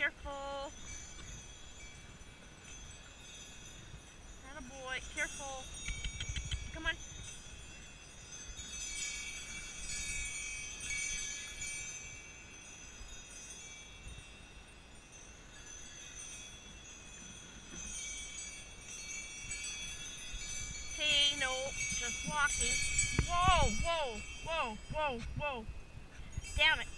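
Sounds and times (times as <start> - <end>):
sleigh bells jingling: 0.0 - 26.9.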